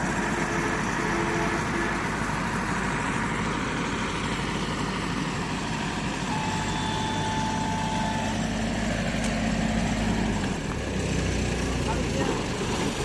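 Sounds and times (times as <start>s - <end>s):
harvester machinery droning: 0.0s - 13.0s.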